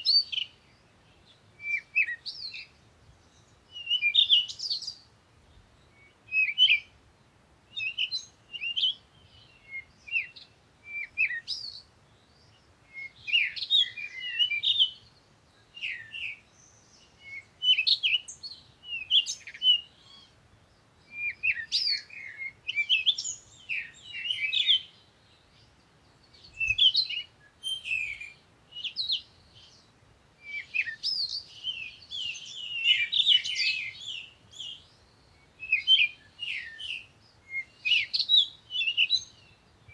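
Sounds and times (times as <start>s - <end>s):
birds chirping: 7.7s - 39.9s.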